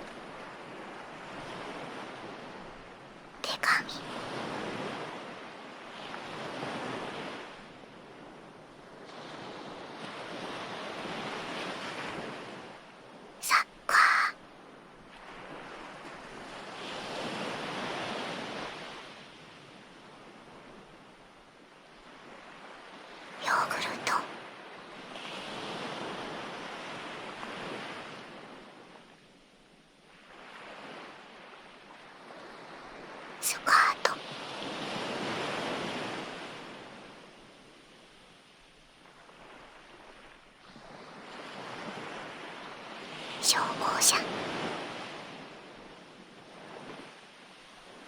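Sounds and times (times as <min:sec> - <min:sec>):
ocean waves washing on shore: 0:00.0 - 0:48.0.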